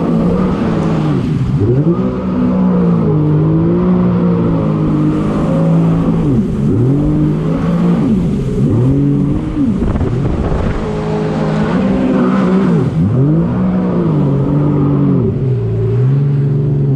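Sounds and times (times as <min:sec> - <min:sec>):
jet ski engine revving: 0:00.0 - 0:16.9.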